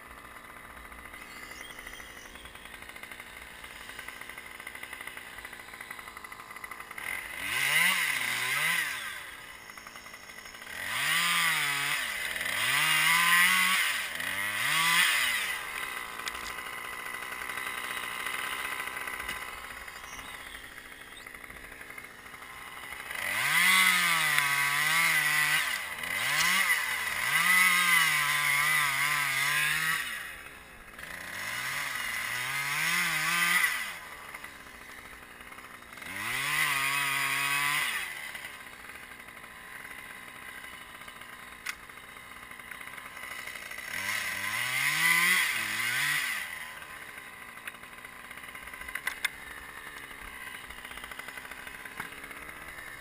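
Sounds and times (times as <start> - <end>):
chainsaw revving and idling: 0.0 - 53.0.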